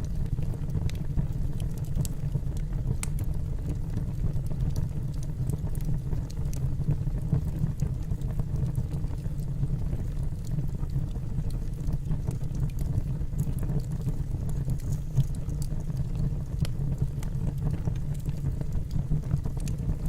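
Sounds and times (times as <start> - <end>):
low fire rumble: 0.0 - 20.0
wood crackling and popping: 0.0 - 20.0.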